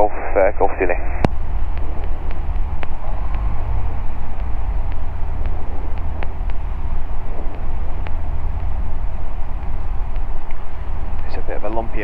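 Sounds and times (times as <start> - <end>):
light aircraft engine droning: 0.0 - 12.0
wind on microphone: 1.0 - 12.0
faint light ticks: 1.2 - 12.0.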